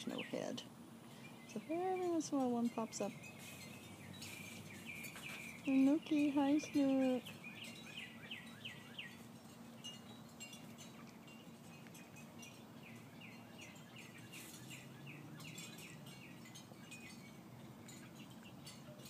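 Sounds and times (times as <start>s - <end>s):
high bird chips: 1.2s - 19.0s.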